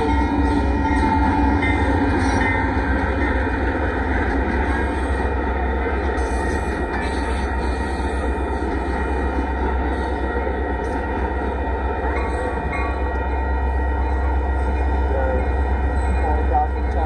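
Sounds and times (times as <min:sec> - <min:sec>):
crossing warning bell ringing: 0:00.0 - 0:17.0
train wheels rumbling on rail: 0:00.0 - 0:17.0.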